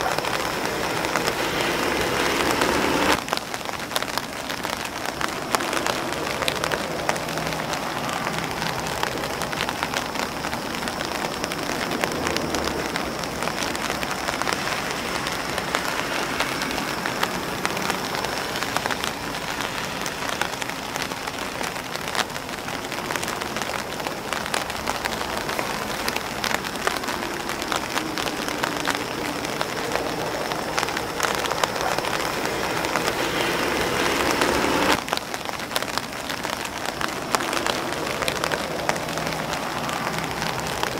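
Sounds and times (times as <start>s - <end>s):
rain on grass and umbrella: 0.0s - 40.9s.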